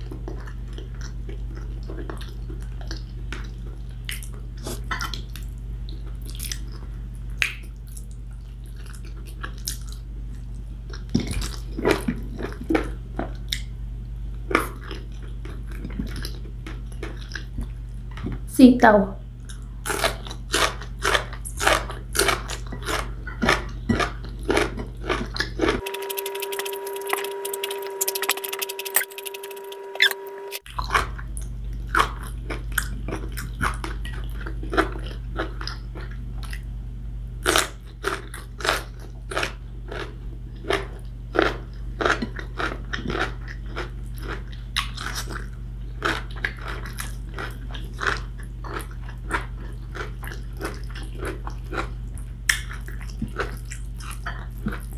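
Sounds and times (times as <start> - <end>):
crunching and chewing beans: 0.0 - 18.5, 19.4 - 36.7, 37.4 - 54.9
low steady hum: 0.0 - 54.9.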